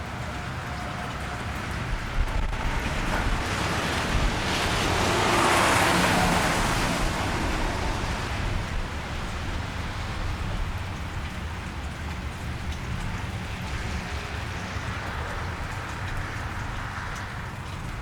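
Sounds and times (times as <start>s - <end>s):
car tyres hissing on wet road: 0.0s - 18.0s
steady rain: 0.0s - 18.0s.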